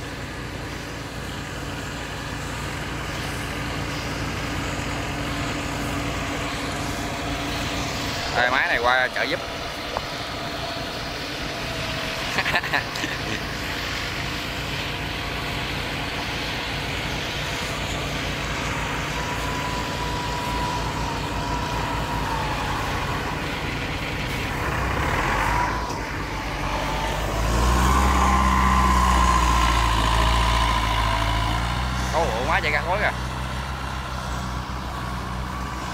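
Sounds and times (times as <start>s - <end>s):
deeper engine note: 0.0s - 35.9s
harvester engine running: 0.0s - 35.9s
high whine: 0.0s - 35.9s.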